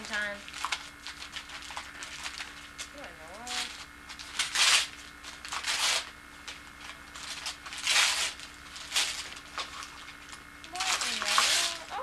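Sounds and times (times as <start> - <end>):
wrapping paper rustling and tearing: 0.0 - 12.0.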